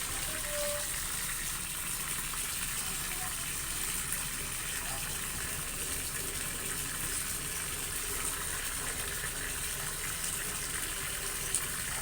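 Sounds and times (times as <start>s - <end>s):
tap water filling container: 0.0s - 12.0s.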